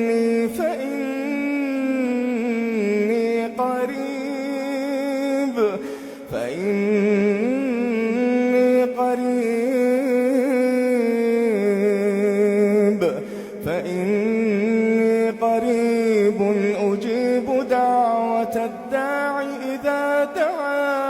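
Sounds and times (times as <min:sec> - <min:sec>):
man chanting melodically: 0:00.0 - 0:21.0.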